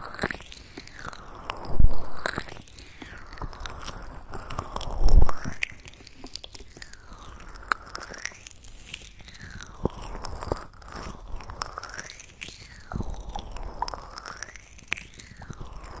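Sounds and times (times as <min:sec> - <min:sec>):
crackly clicks: 0:00.0 - 0:16.0.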